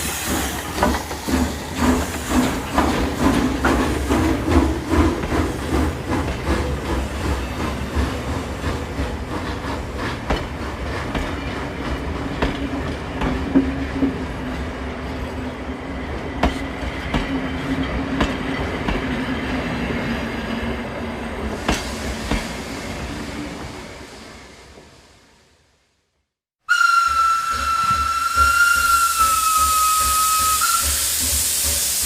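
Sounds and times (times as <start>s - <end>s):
train rumbling on rails: 0.0s - 26.0s, 26.7s - 32.0s.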